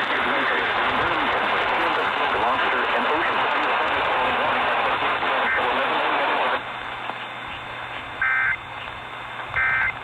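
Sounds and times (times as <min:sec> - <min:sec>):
radio static hiss: 0:00.0 - 0:10.0
buzzy data tones: 0:01.0 - 0:10.0.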